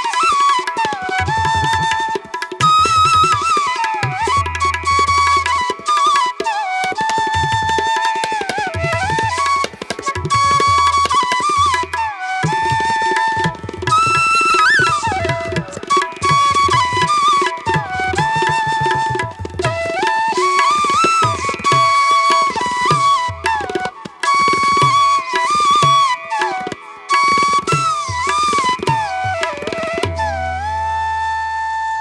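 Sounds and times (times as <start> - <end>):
tabla drumming: 0.0 - 31.7
flute melody: 0.0 - 32.0.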